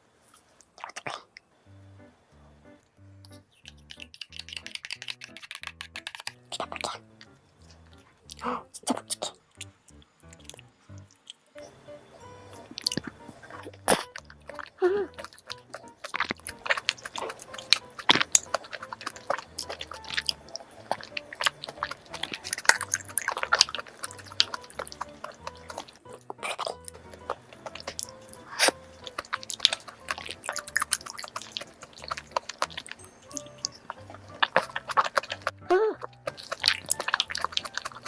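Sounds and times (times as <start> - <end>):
chewing and wet mouth sounds: 0.6 - 1.4, 3.2 - 11.8, 12.4 - 38.0
soft background music: 1.6 - 38.0.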